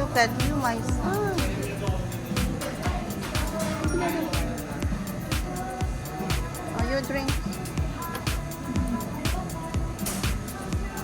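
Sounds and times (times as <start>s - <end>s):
music with low thudding beat: 0.0s - 11.0s.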